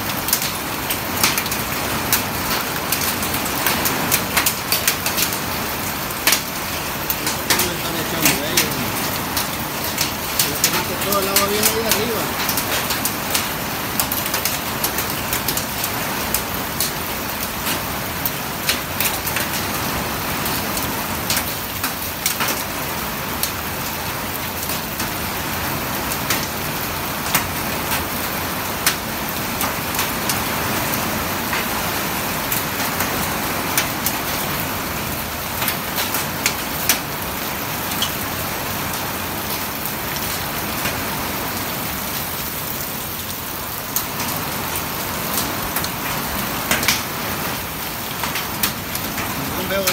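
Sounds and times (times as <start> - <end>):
heavy rain pouring: 0.0 - 49.9
raindrops tapping a surface: 0.0 - 49.9.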